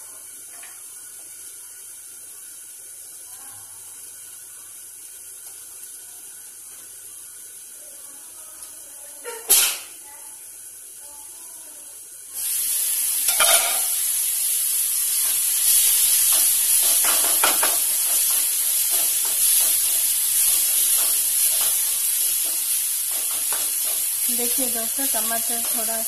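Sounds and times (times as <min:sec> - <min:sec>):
masala sizzling in a pan: 0:00.0 - 0:26.0.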